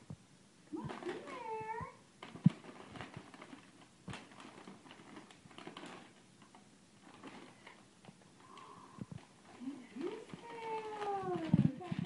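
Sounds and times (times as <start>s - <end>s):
sharp paper crackle: 0.8s - 12.0s
wrapping paper crinkling: 0.8s - 12.0s.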